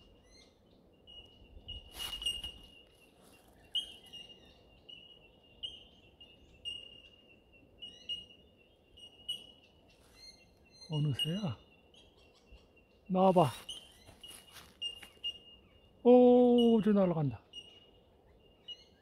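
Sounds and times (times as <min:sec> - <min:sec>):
bellbirds ringing calls: 0:00.0 - 0:19.0
small birds chirping: 0:00.0 - 0:19.0.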